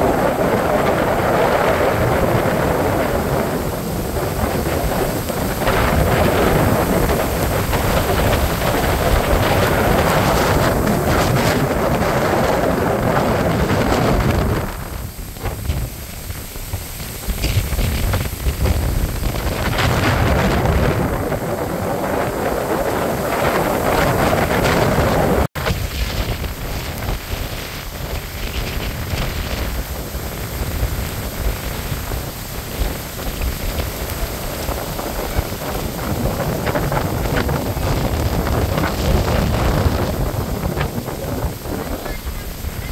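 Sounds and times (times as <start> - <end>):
storm wind buffeting microphone: 0.0 - 42.9.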